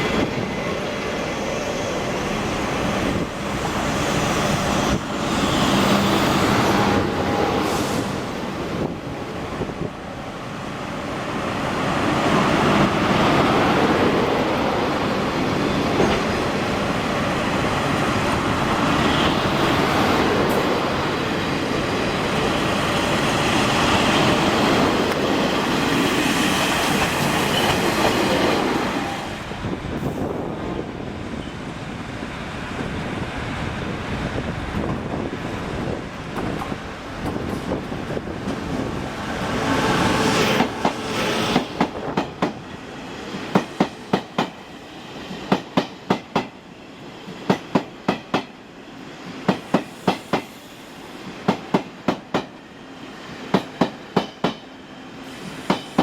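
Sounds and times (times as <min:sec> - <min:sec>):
train wheel and rail noise: 0:00.0 - 0:56.0.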